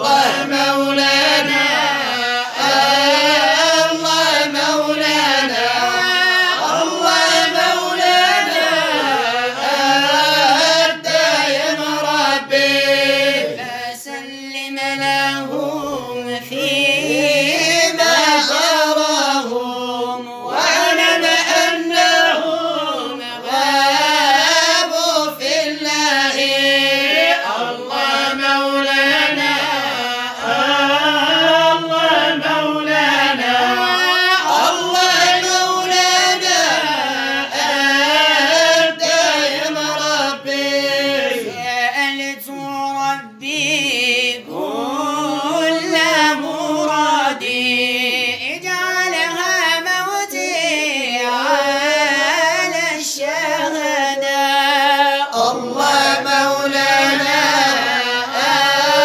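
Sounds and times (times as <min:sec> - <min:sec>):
voices chanting ornamented lines: 0:00.0 - 0:59.0.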